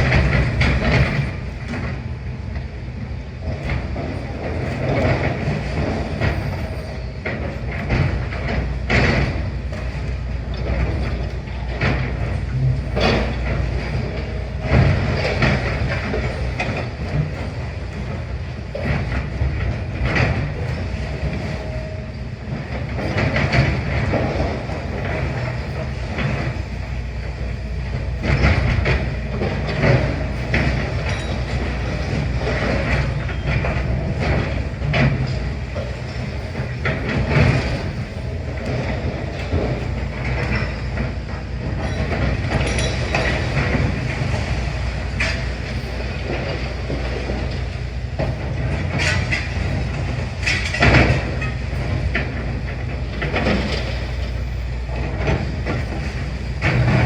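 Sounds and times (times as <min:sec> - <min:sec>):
diesel engine running: 0:00.0 - 0:57.0
machinery clanks and knocks: 0:00.0 - 0:57.0.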